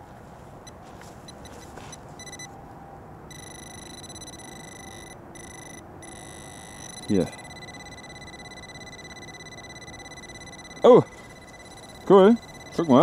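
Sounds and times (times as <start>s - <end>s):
metal detector beeping: 0.7s - 2.5s, 3.3s - 13.0s.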